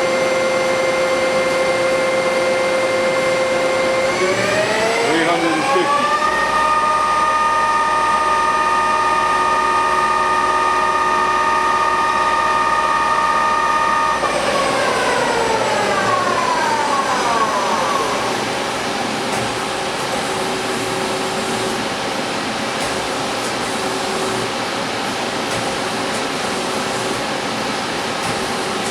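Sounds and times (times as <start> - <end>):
lathe spindle whine: 0.0 - 28.9
machine hum: 0.0 - 28.9.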